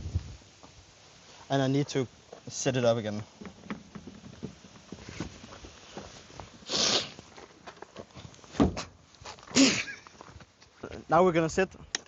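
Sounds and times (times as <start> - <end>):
rustle: 0.0 - 12.0.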